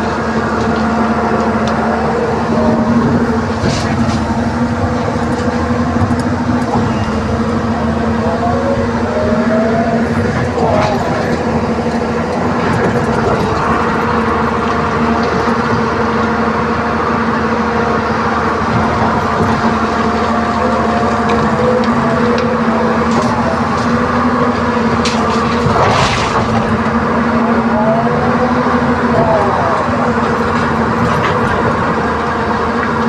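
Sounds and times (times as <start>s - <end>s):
excavator diesel engine and hydraulics: 0.0s - 33.0s.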